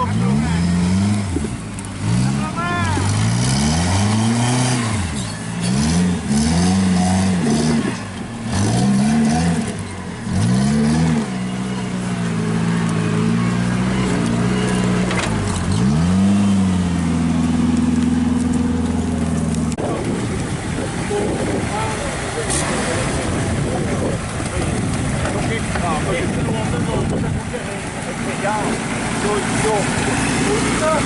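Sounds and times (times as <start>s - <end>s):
vehicle engine revving: 0.0s - 31.0s.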